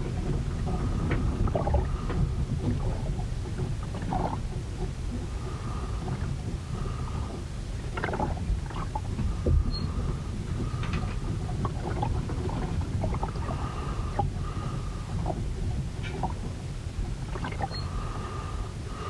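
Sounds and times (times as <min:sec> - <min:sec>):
hull creaks and knocks: 0:00.0 - 0:05.4, 0:06.0 - 0:18.0
rumble of wind and water: 0:00.0 - 0:19.0.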